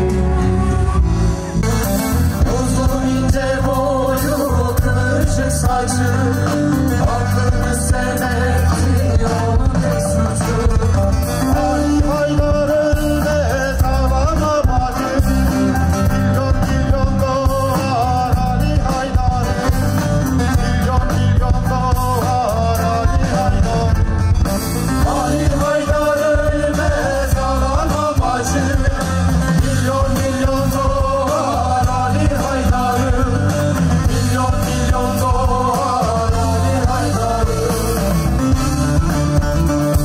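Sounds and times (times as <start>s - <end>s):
person singing: 0.0s - 24.1s, 24.9s - 38.6s
live band playing: 0.0s - 40.0s.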